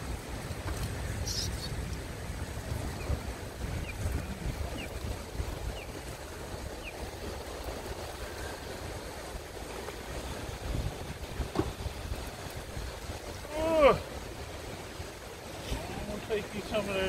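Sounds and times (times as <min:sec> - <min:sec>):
rushing river water: 0:00.0 - 0:17.0
wind rumbling on microphone: 0:00.0 - 0:17.0.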